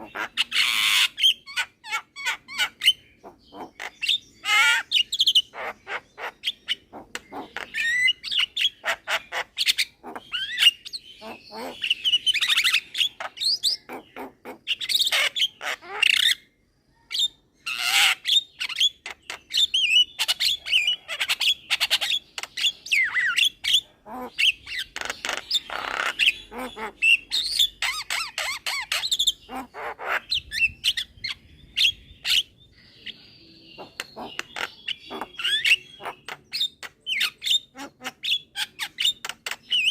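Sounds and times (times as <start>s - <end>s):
bird whistling and chattering: 0.0s - 16.4s, 17.1s - 39.9s.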